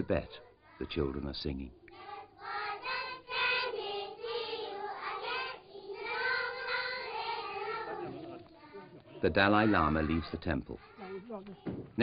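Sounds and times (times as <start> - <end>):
children singing together: 1.8 - 11.8.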